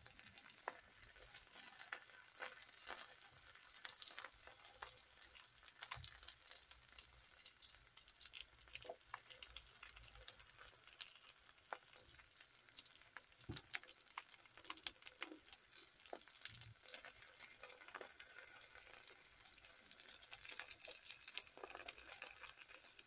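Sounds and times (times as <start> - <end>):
eggs sizzling in a pan: 0.0 - 23.0.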